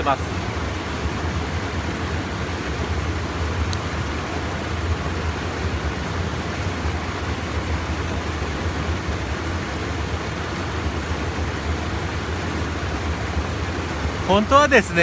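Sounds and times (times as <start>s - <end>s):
low water rumble: 0.0s - 15.0s
stream water rushing over dam: 0.0s - 15.0s.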